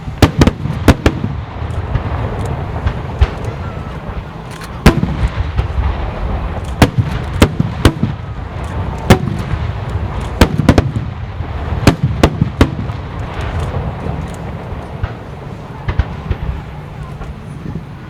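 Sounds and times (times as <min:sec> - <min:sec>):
fireworks bursting bangs: 0:00.0 - 0:18.0
low rumble of fireworks barrage: 0:00.0 - 0:18.0.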